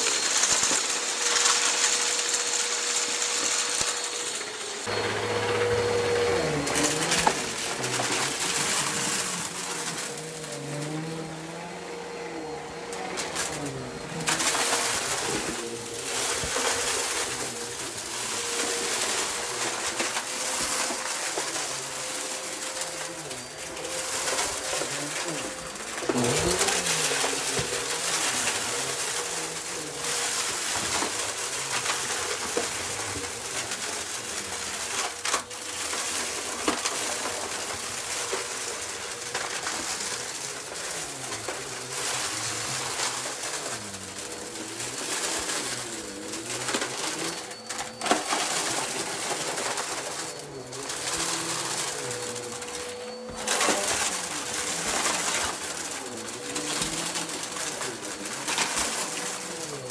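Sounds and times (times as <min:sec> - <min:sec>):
debris crackling and clicking: 0:00.0 - 0:04.5, 0:06.3 - 0:59.9
vacuum cleaner motor: 0:00.0 - 0:59.9.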